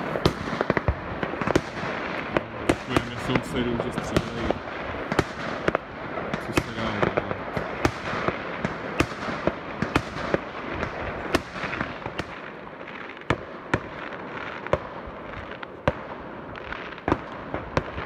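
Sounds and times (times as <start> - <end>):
din of fireworks explosions: 0.0 - 18.0
fireworks bangs: 0.0 - 18.0.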